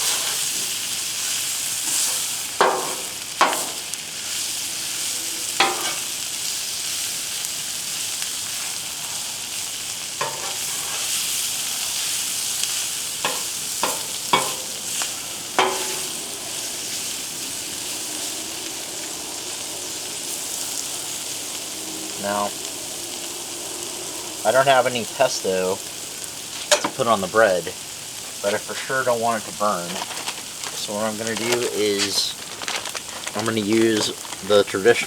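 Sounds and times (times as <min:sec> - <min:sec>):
food sizzling on griddle: 0:00.0 - 0:35.0.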